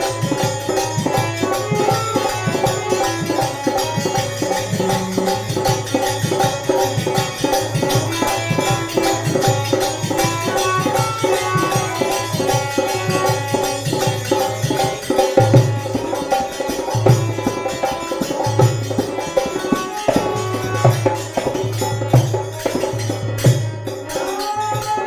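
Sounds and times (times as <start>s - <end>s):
devotional melody: 0.0s - 25.0s
hand drum rhythm: 0.0s - 25.0s.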